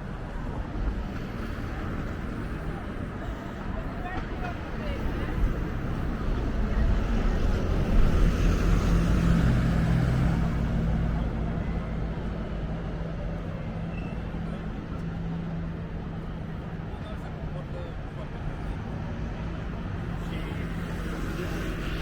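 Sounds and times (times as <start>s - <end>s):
vehicle engine humming: 0.0s - 17.4s, 19.1s - 22.0s.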